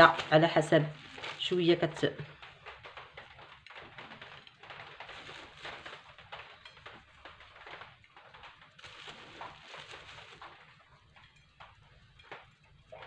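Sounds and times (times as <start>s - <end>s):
herbs rustling and pattering: 0.0s - 13.0s.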